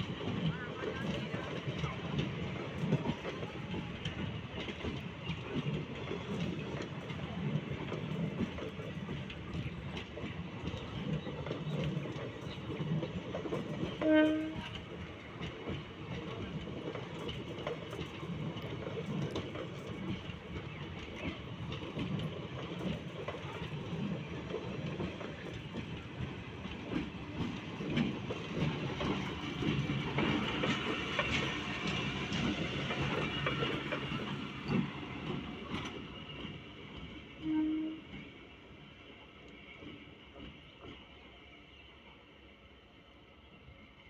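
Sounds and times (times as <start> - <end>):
train wheels clicking on rails: 0.0 - 41.7.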